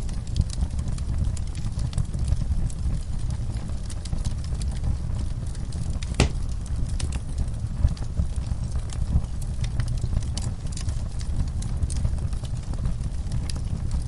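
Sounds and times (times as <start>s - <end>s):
fireplace crackling: 0.0s - 14.0s.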